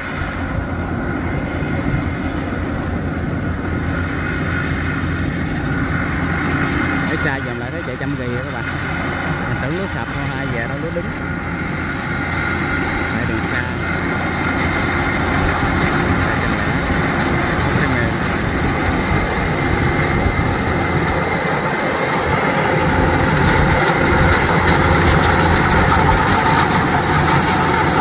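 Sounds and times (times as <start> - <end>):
combine harvester running: 0.0 - 28.0
high machinery whine: 0.0 - 28.0.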